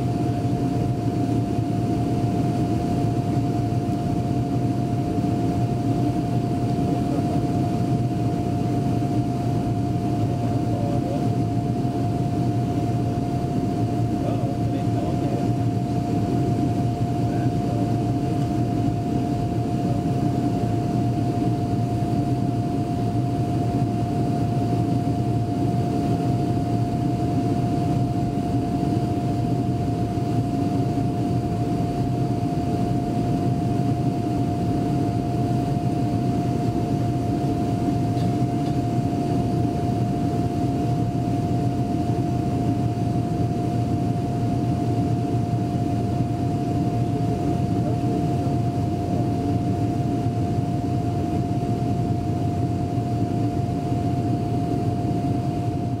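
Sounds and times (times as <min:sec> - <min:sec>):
jet engine and air roar: 0:00.0 - 0:56.0.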